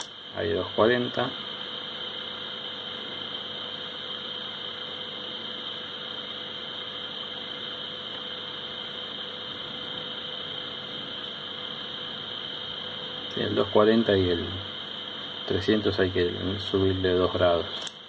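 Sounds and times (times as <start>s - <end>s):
radio speaker hum with hiss: 0.0s - 18.0s.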